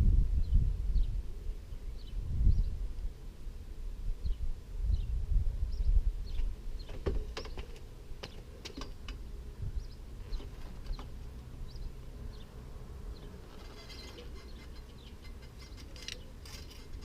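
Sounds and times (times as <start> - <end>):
small birds chirping: 0.4 - 2.8, 4.2 - 17.0.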